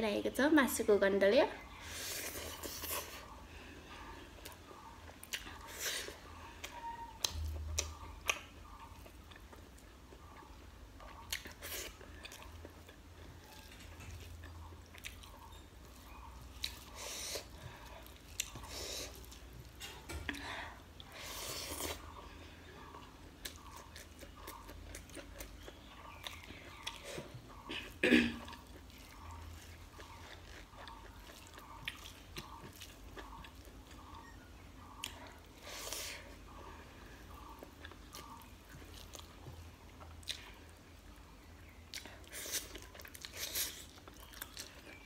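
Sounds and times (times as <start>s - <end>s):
wet chewing: 1.7s - 20.4s, 21.0s - 40.9s, 41.5s - 45.0s.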